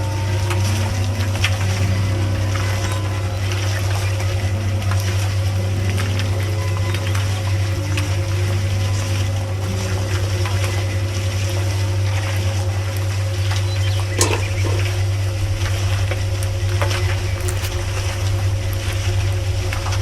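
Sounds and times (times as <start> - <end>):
small electric motor humming: 0.0 - 15.3, 17.0 - 18.7.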